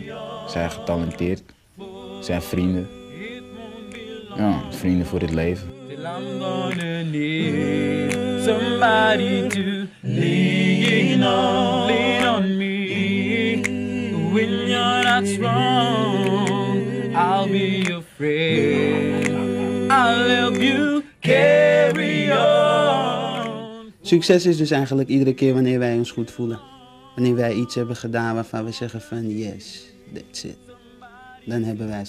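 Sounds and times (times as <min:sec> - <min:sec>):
male vocal group singing a cappella: 0:00.0 - 0:32.0.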